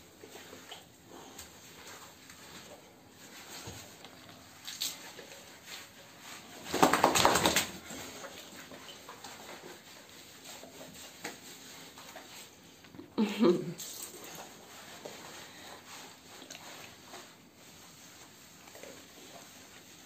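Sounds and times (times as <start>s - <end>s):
hands scrubbing wet dog: 0.0s - 20.0s.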